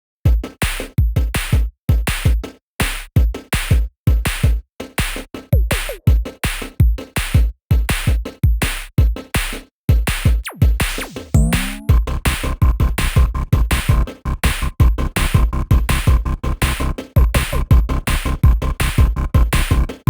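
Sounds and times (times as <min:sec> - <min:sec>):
electronic music with drum machine: 0:00.3 - 0:20.0.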